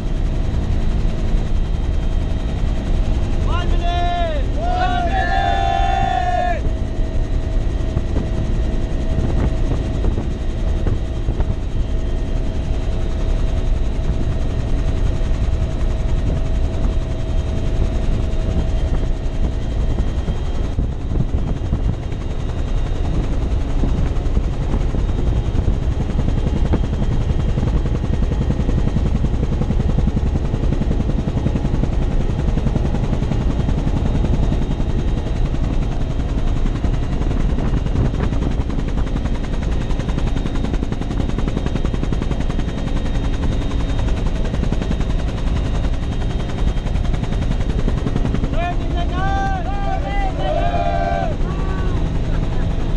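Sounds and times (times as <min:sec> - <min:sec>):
helicopter rotor chop: 0:00.0 - 0:52.9.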